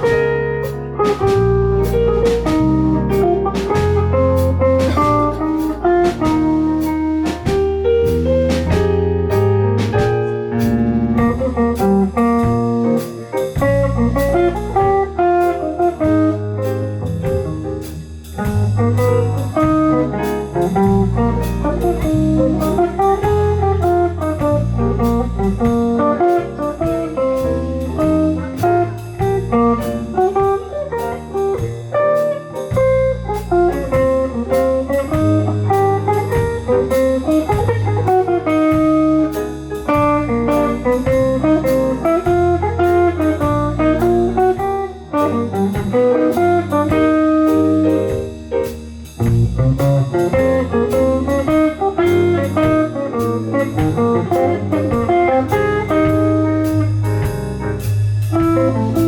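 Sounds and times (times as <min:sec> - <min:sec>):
band playing jazz-blues: 0:00.0 - 0:59.0
bass line: 0:00.0 - 0:59.0
steady drum beat: 0:00.0 - 0:59.0.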